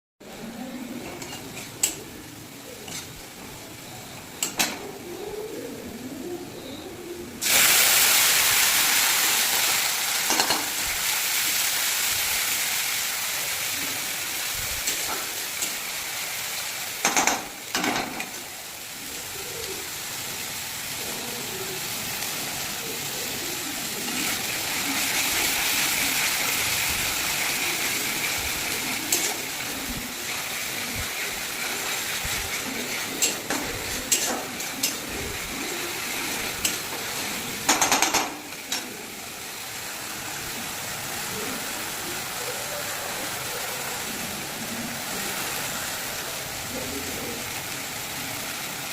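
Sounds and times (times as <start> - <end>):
food sizzling in hot oil: 0.2 - 6.3, 7.3 - 48.9.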